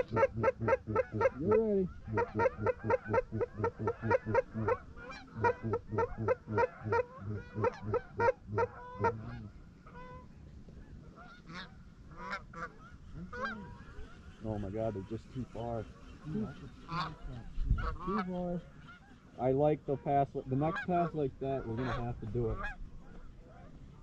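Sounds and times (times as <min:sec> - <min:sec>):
goose calls honking and clucking: 0:00.0 - 0:23.9.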